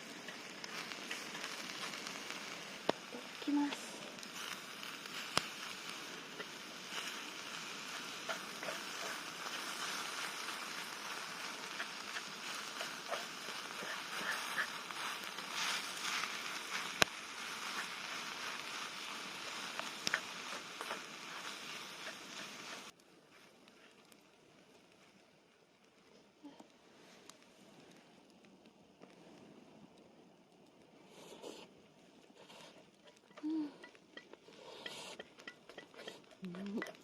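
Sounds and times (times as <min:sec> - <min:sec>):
eggs sizzling on a griddle: 0:00.0 - 0:27.4, 0:31.0 - 0:37.0
small pops of frying: 0:00.0 - 0:30.9, 0:32.1 - 0:37.0.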